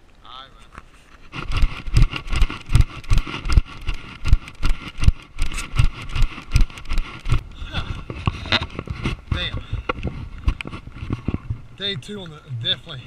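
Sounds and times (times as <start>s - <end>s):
steady rustle: 0.0s - 13.0s.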